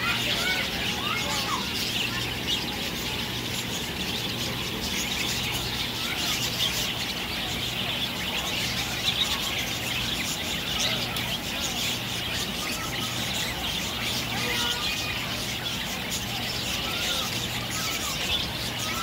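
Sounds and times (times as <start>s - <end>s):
budgerigars chattering and chirping: 0.0s - 19.0s
steady low hum: 0.0s - 19.0s.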